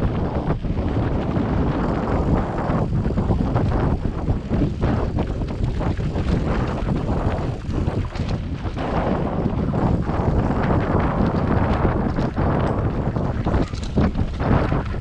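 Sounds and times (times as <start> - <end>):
bike knocks and rattles: 0.0 - 15.0
low rumble: 0.0 - 15.0
wind rushing over microphone: 0.0 - 15.0.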